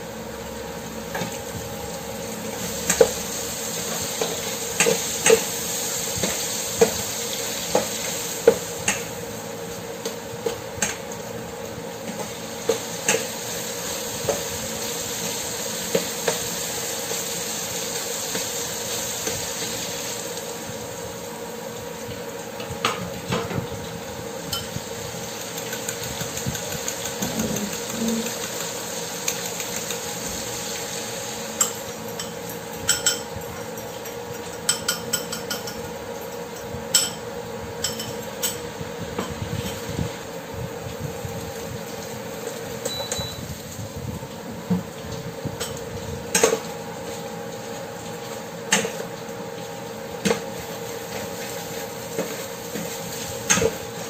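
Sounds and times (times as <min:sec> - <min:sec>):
vegetables sizzling in hot oil: 0:00.0 - 0:33.1, 0:37.7 - 0:54.0.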